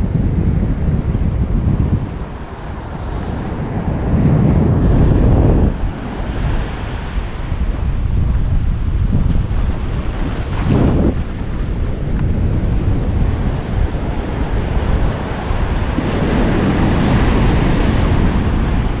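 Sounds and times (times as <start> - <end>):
wind buffeting microphone: 0.0 - 19.0
ocean surf breaking: 1.9 - 19.0.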